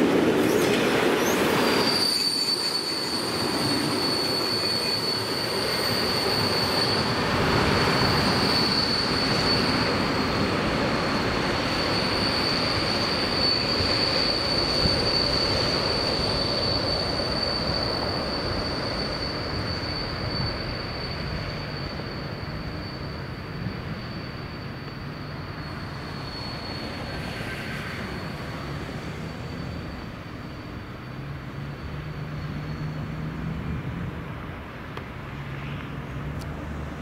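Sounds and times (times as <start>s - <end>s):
train wheels squealing: 0.0s - 37.0s
wagons rumbling on rails: 0.0s - 37.0s.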